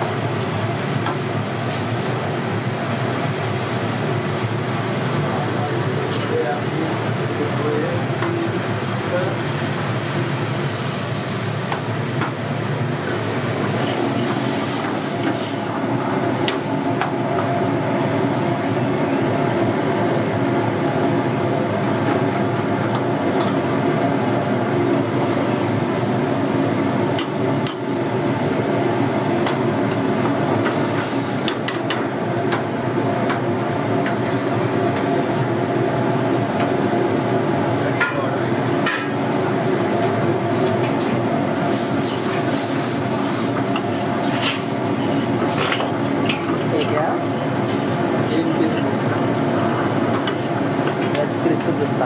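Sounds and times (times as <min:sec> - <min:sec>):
gas burner rumbling: 0:00.0 - 0:52.0.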